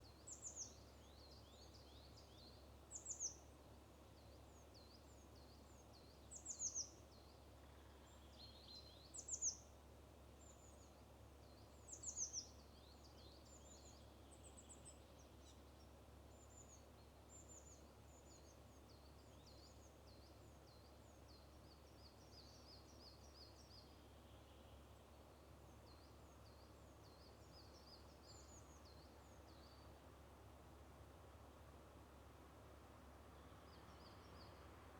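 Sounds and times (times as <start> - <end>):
faint bird chirps and trills: 0.0 - 34.9
faint low hum: 0.0 - 34.9.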